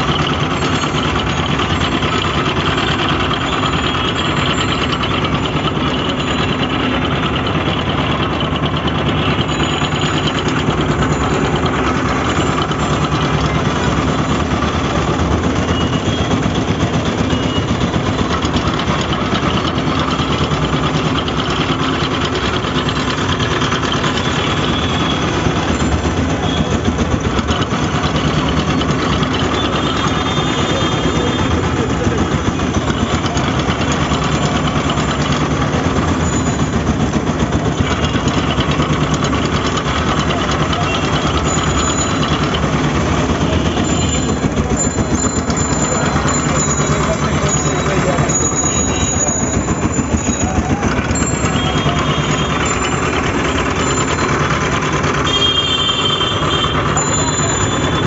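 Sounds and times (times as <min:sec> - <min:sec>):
sugarcane juicer rattling: 0:00.0 - 0:58.0.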